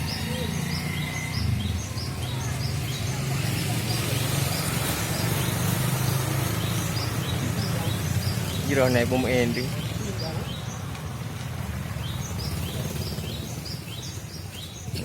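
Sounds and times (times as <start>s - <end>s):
small bird chirping: 0.0s - 11.1s, 11.9s - 15.0s.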